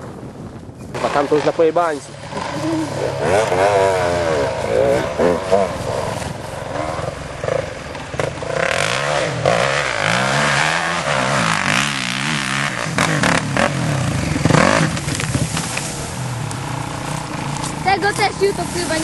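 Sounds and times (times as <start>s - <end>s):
motocross bike engine revving: 0.9s - 19.0s.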